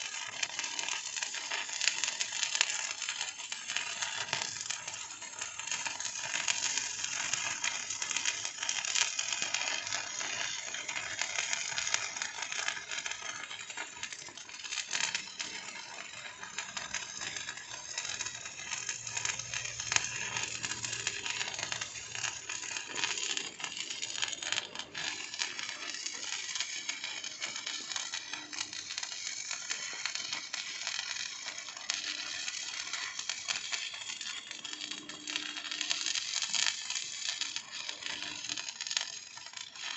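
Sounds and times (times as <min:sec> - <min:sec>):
arc welding crackling sizzle: 0:00.0 - 0:39.9.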